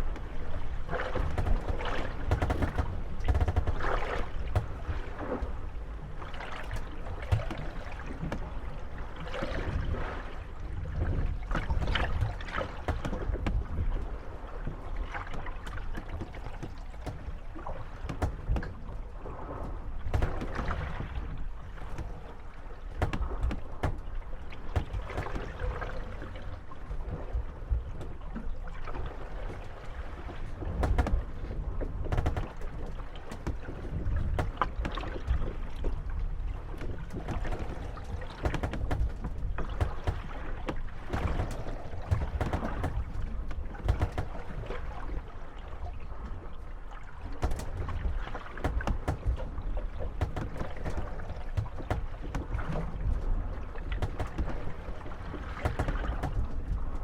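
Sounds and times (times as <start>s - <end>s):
low wind rumble: 0.0s - 57.0s
water lapping at hulls: 0.0s - 57.0s
wooden boats creaking and knocking: 0.0s - 57.0s.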